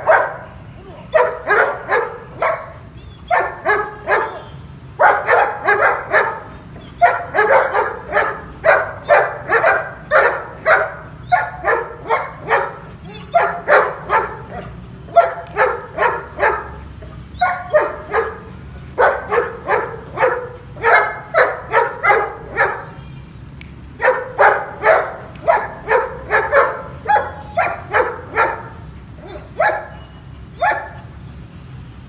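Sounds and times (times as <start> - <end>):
dog barking: 0.0 - 23.0, 24.0 - 31.1.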